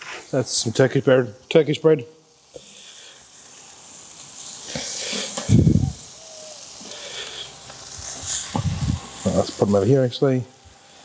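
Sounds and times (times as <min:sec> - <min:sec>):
meat sizzling over charcoal: 0:00.0 - 0:11.0.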